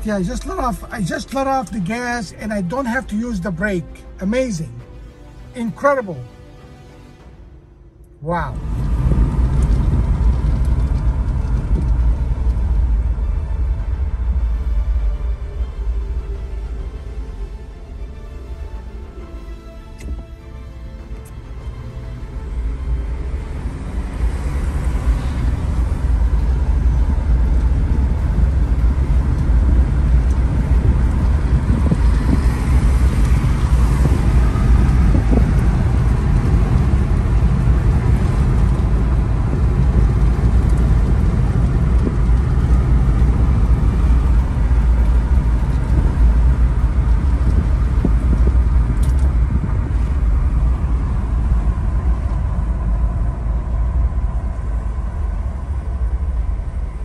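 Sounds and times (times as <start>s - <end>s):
road and drivetrain rumble: 0.0s - 57.0s.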